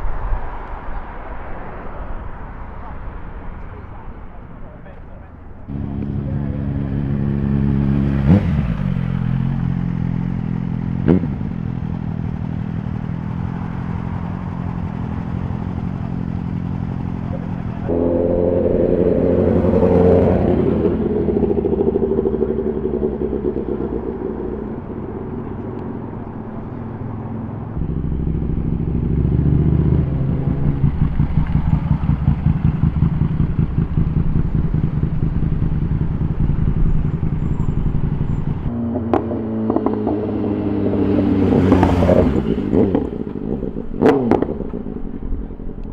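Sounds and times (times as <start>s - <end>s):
motorcycle engines idling: 3.5s - 45.9s.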